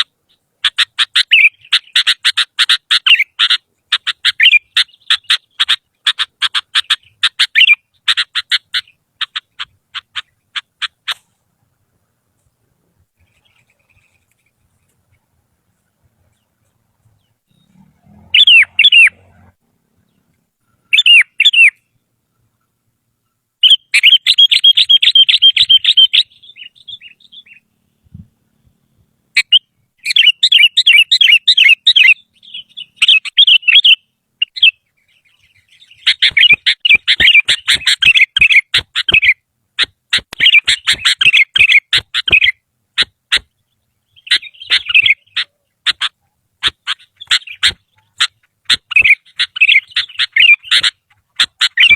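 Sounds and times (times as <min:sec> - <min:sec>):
bulbul singing: 0:00.0 - 0:10.5, 0:16.2 - 0:51.9.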